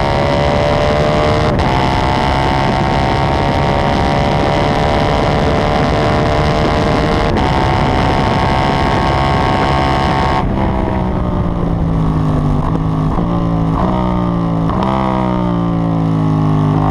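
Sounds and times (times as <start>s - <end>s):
motorcycle engine at high revs: 0.0s - 16.9s
wind noise: 0.0s - 16.9s.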